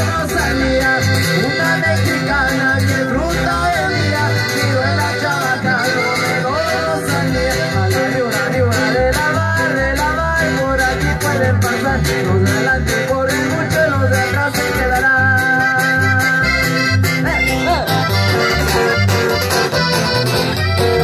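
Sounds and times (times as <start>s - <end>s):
accordion melody: 0.0s - 21.0s
live band playing: 0.0s - 21.0s.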